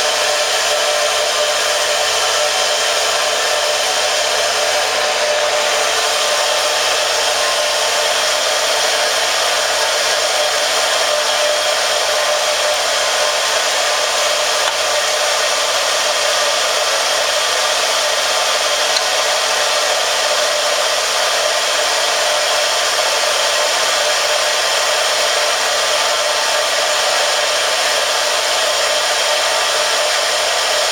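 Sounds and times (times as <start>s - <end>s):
lathe running with gear whir: 0.0s - 30.9s.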